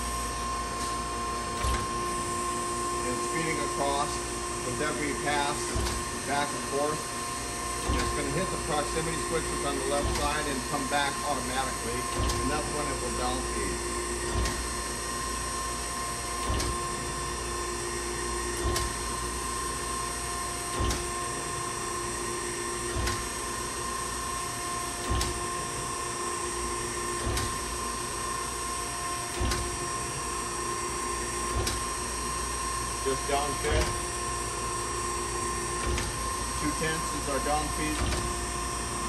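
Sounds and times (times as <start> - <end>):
grinder hum and whine: 0.0 - 39.0.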